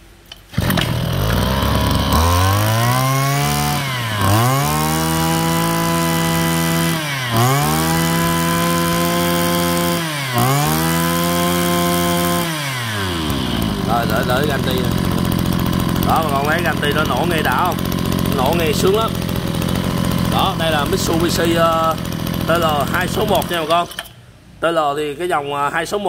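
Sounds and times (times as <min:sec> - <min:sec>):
brush cutter engine revving: 0:00.3 - 0:24.2.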